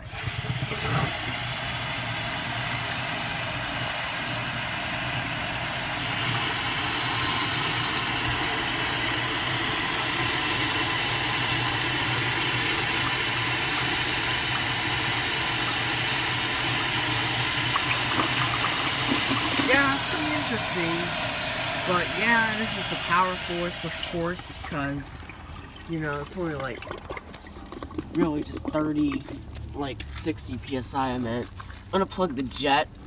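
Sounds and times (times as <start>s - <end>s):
toilet flushing: 0.0s - 29.4s.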